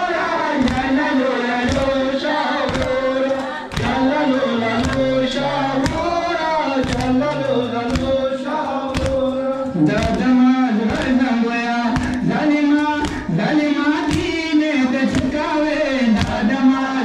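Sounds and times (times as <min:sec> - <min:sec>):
hands beating on chests: 0:00.0 - 0:16.7
group of voices chanting: 0:00.0 - 0:17.0.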